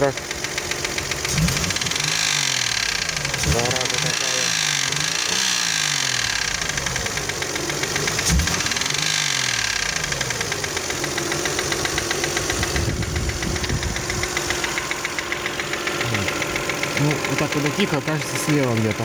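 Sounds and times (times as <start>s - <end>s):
engine idling with rapid knock: 0.0s - 19.0s.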